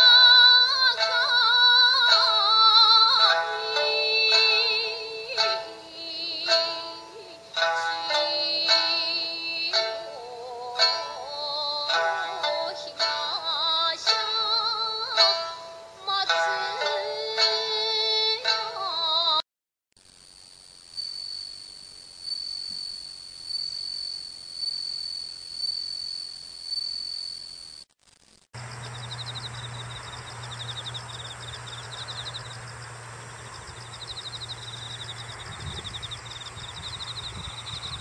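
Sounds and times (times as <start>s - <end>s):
insect chorus of rapid chirps: 0.0s - 17.5s, 20.0s - 38.0s
insects trilling: 0.0s - 19.4s, 20.0s - 38.0s.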